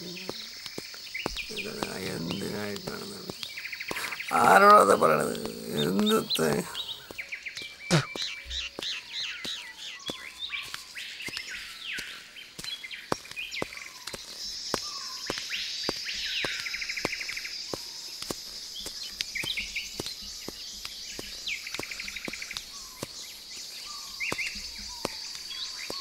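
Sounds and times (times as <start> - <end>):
birds whistling and trilling: 0.0 - 4.3, 6.0 - 26.0.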